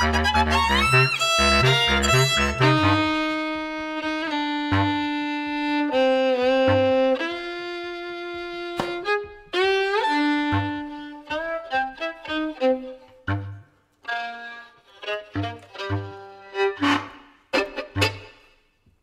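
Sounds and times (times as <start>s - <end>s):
bowed violin: 0.0s - 18.8s.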